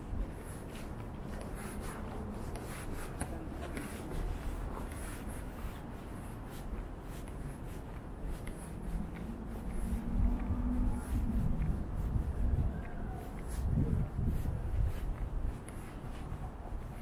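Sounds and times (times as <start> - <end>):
city street hum: 0.0 - 17.0
footsteps on pavement: 0.0 - 17.0.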